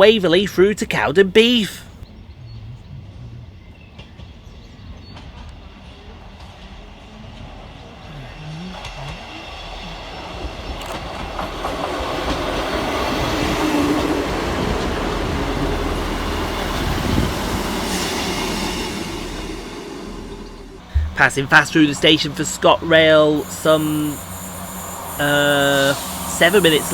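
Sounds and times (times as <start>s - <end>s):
diesel train engine: 0.0s - 26.9s
train wheels on rails: 3.8s - 26.9s.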